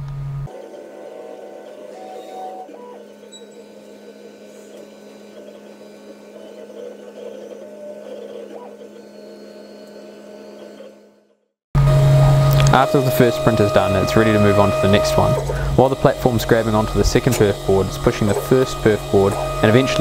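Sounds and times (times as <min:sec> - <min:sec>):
electric hum: 0:00.0 - 0:11.2, 0:11.8 - 0:20.0
printer stepper motors whirring: 0:00.4 - 0:20.0.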